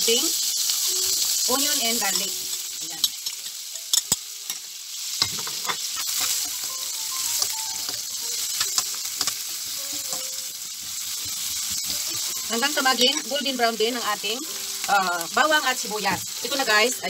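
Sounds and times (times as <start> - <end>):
onion sizzling in butter: 0.0 - 17.0.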